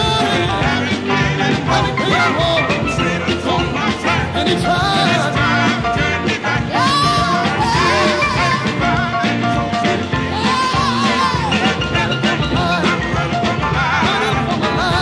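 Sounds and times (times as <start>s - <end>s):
band music with wavering melody: 0.0s - 15.0s.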